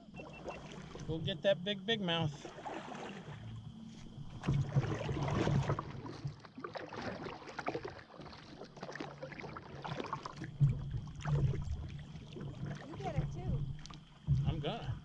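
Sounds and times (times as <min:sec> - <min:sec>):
kayak paddle strokes in water: 0:00.0 - 0:01.4, 0:02.0 - 0:15.0
water splashes and drips: 0:00.3 - 0:01.2, 0:02.3 - 0:03.5, 0:04.3 - 0:15.0.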